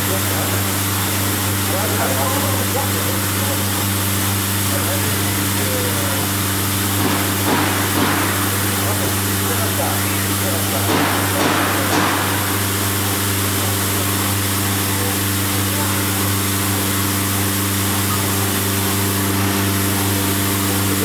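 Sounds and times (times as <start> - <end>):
router machine hum and hiss: 0.0 - 21.0.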